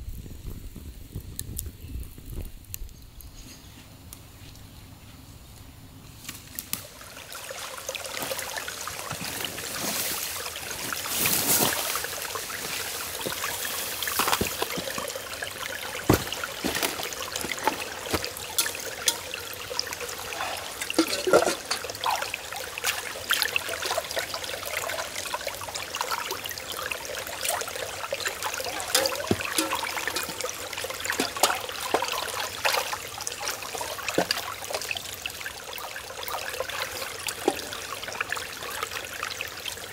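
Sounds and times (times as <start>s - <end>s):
creek trickling over rocks: 6.0s - 39.9s.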